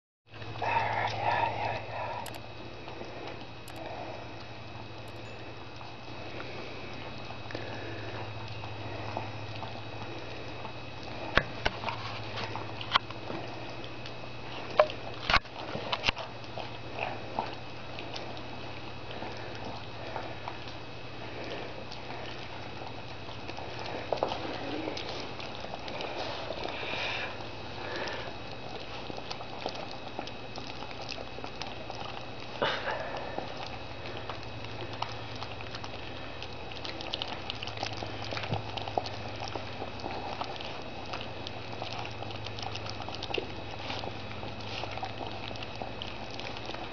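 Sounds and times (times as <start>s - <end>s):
puppies chewing and licking: 0.3s - 46.9s
steady low hum: 0.3s - 46.9s.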